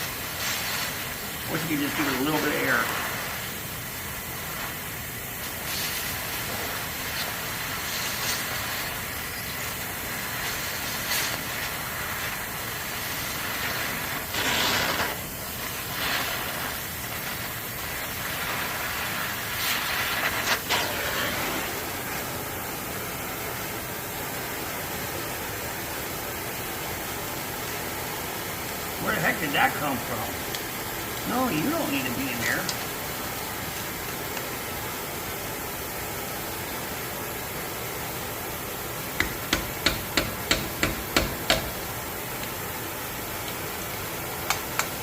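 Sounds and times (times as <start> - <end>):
flame surges and pops: 0.0 - 45.0
gas torch flame hissing: 0.0 - 45.0.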